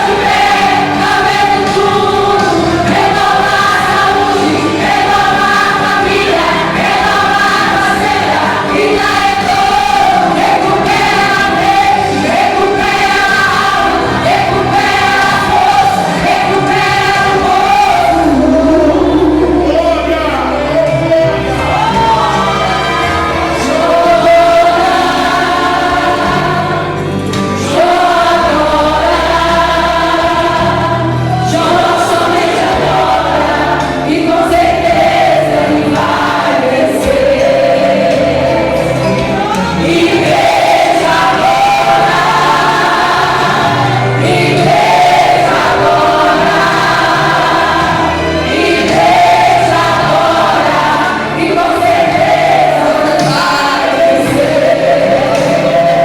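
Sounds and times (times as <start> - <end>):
gospel choir singing with band: 0.0 - 56.0.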